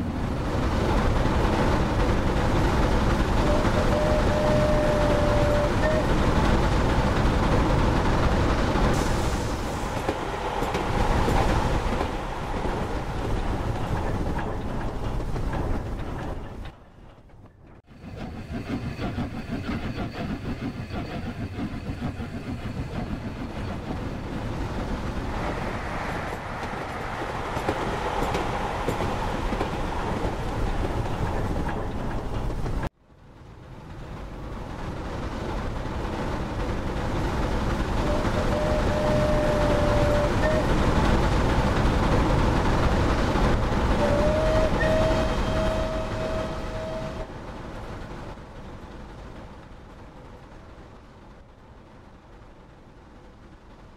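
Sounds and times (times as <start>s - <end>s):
model train rumbling on track: 0.0s - 53.9s.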